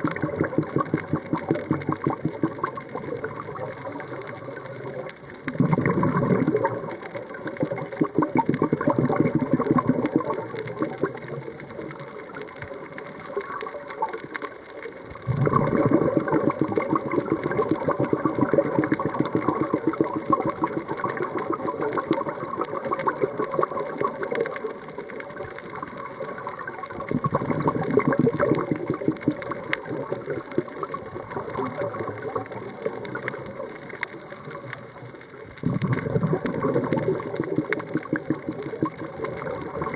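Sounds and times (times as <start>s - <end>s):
underwater exhaled bubbles: 0.0s - 39.9s.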